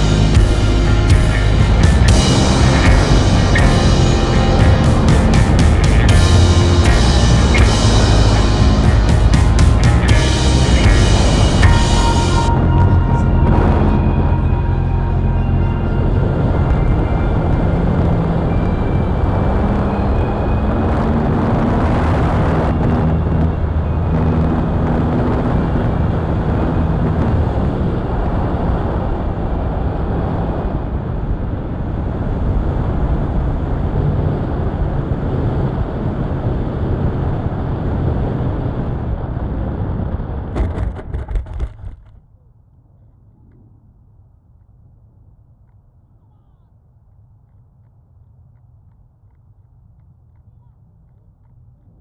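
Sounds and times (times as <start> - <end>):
wind rushing over microphone: 0.0 - 42.2.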